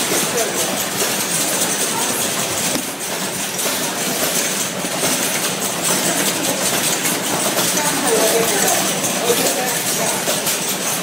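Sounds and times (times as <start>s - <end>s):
machine whirring: 0.0s - 11.0s.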